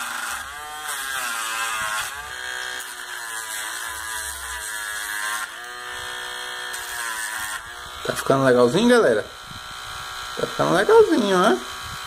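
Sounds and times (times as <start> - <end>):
rotary tool whining: 0.0 - 12.0.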